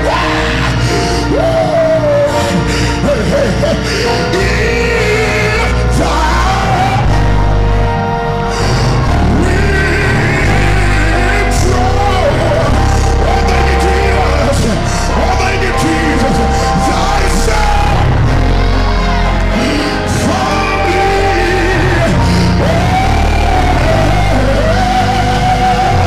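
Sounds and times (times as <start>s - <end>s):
band with heavy bass: 0.0s - 26.0s
singer and choir singing: 0.0s - 26.0s.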